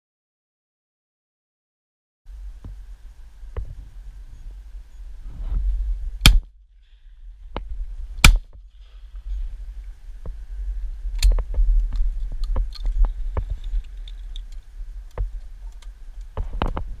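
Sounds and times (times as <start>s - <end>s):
steady low rumble: 2.3s - 17.0s.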